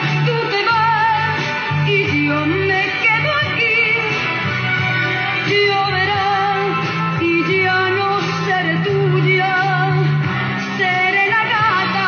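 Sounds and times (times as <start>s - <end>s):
band accompaniment: 0.0s - 12.0s
woman singing a ballad: 0.0s - 12.0s.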